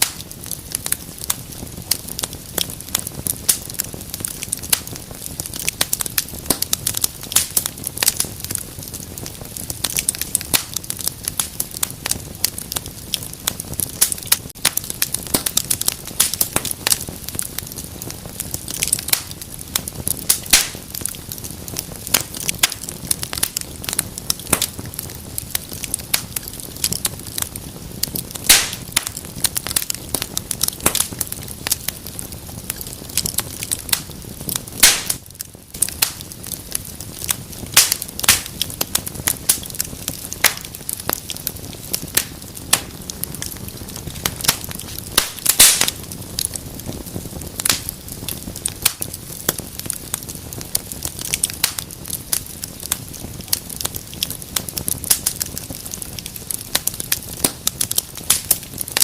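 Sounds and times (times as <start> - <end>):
low rushing of flame: 0.0 - 59.0
wood fire crackling: 0.0 - 59.0.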